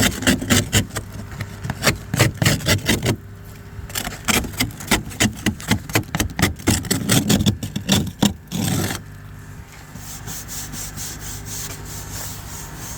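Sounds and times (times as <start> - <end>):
scraping on snow and ice: 0.0 - 12.9
steady low hum: 0.0 - 12.9.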